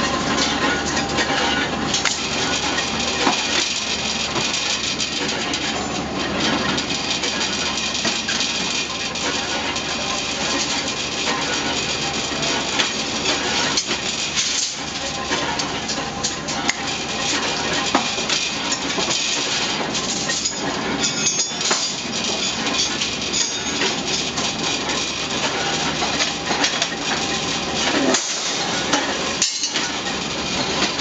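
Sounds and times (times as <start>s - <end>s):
metallic clanks and clicks: 0.0s - 31.0s
rebar bending machine drone: 0.0s - 31.0s.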